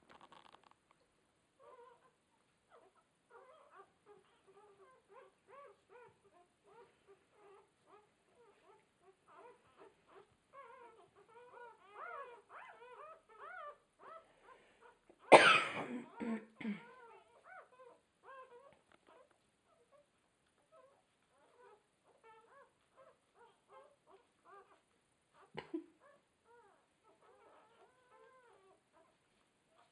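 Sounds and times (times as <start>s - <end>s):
puppies squeaking and whimpering: 1.6s - 15.0s, 16.8s - 29.9s.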